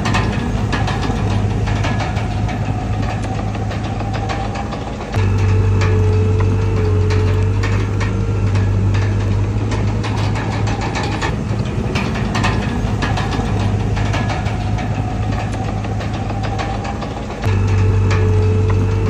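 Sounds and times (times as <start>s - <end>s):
bulldozer diesel engine running: 0.0s - 19.0s
faint whine: 0.0s - 19.0s
metallic clanks and ticks: 0.0s - 19.0s.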